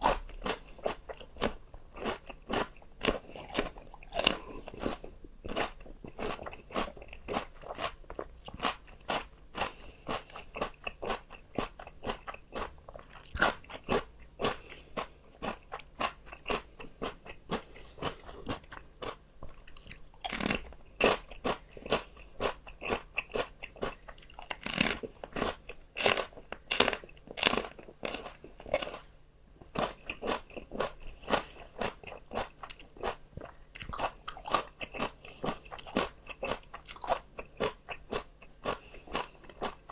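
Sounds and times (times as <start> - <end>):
person chewing crunchy vegetables: 0.0 - 39.9.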